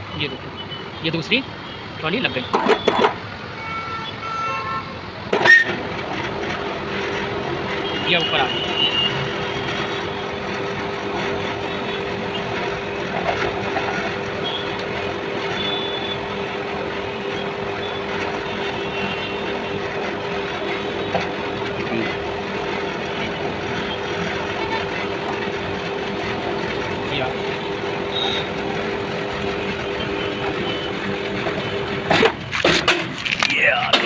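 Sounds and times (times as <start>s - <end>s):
electric hoist motor humming: 5.6s - 34.0s.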